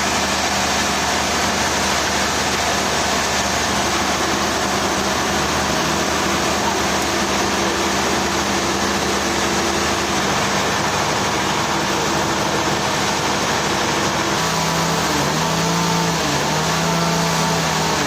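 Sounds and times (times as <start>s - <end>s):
dense machinery noise: 0.0s - 18.0s
engine running: 0.0s - 18.0s.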